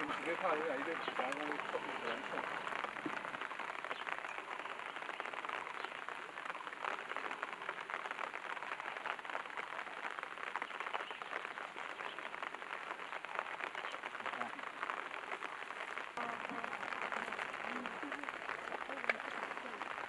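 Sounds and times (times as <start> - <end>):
fine water drips: 0.0 - 20.0.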